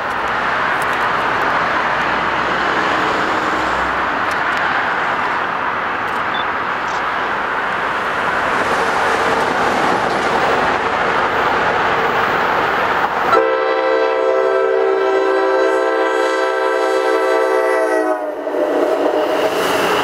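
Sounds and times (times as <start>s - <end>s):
highway traffic rushing: 0.0s - 20.0s.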